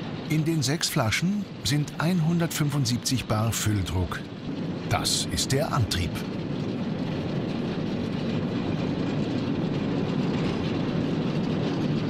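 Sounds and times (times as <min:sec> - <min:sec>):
locomotive wheels rolling rumble: 0:00.0 - 0:12.0.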